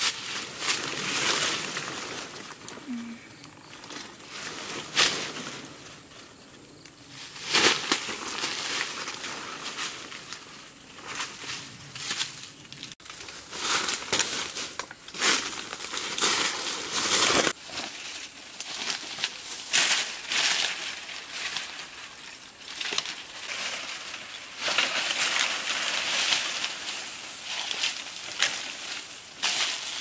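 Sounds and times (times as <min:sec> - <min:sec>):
dry leaves crackling and crunching: 0:00.0 - 0:30.0.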